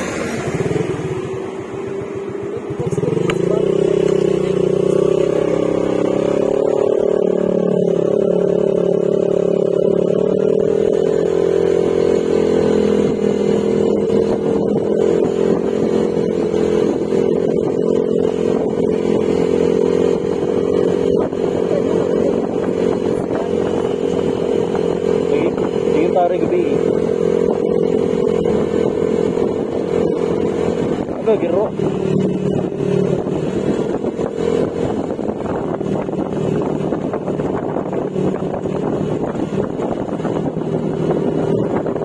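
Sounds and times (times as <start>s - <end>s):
scooter engine running: 0.0s - 42.0s.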